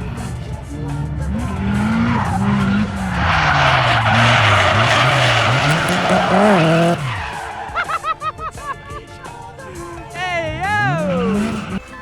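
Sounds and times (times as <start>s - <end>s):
car engine: 0.0s - 12.0s
car tyres squealing: 0.0s - 12.0s.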